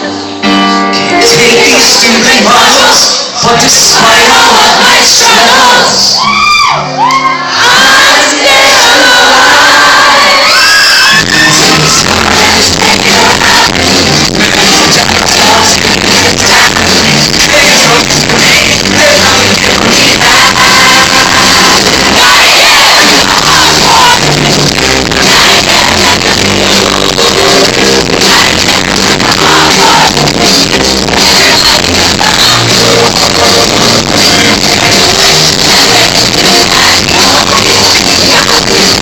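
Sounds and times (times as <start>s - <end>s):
live rock band with vocals: 0.0s - 39.0s.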